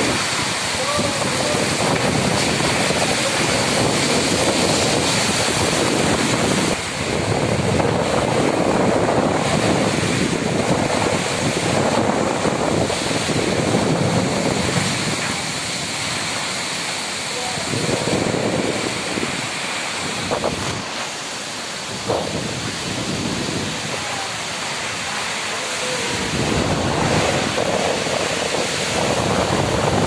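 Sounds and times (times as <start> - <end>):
heavy driving rain: 0.0 - 30.0
wind buffeting microphone: 0.0 - 30.0
wind rushing through trees: 0.0 - 30.0.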